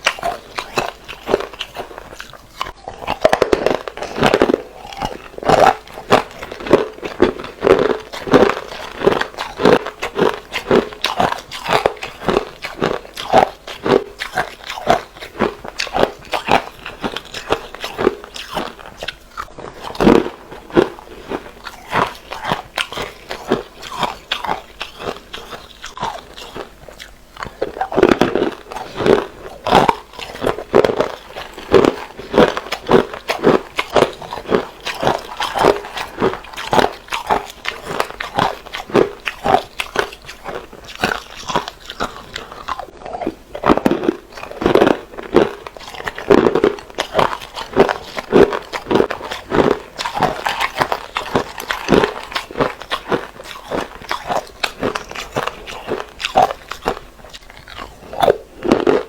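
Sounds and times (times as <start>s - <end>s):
ice being chewed crunching: 0.0s - 59.0s.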